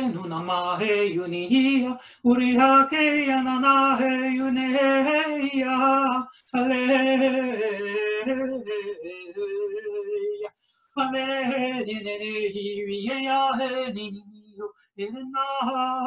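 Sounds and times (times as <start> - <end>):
woman singing wordlessly: 0.0 - 16.0.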